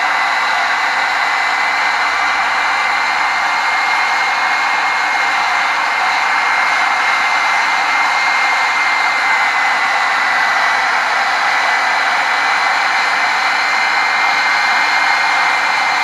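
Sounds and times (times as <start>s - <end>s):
hairdryer blowing with motor whine: 0.0s - 16.0s.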